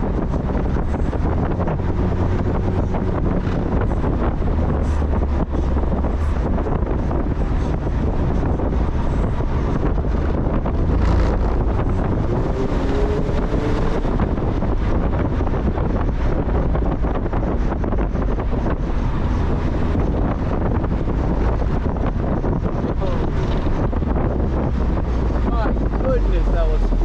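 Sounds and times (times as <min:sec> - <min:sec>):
car driving: 0:00.0 - 0:27.0
wind buffeting microphone: 0:00.0 - 0:27.0.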